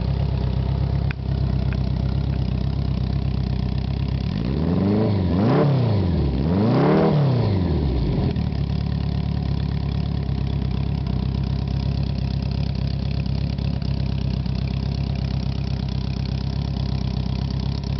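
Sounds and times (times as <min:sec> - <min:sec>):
motorcycle engine idling: 0:00.0 - 0:04.4, 0:07.9 - 0:17.9.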